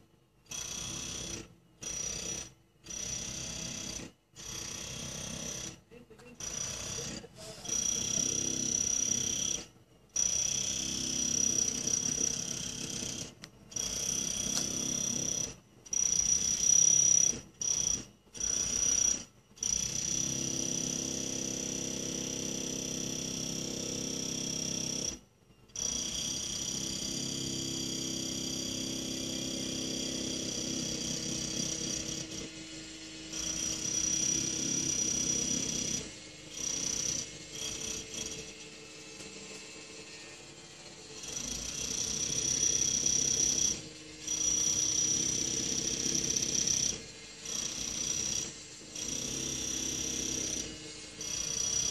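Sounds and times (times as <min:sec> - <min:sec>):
jackhammer breaking concrete: 0:00.5 - 0:05.8, 0:06.4 - 0:25.2, 0:25.8 - 0:40.0, 0:41.1 - 0:51.9.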